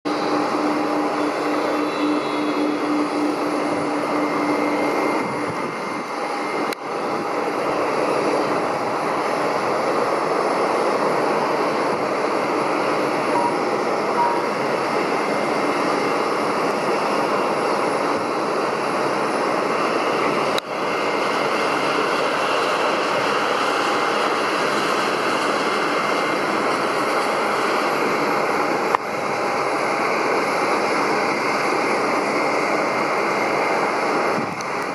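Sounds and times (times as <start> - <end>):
jet engine with turbine whine: 0.0 - 34.9.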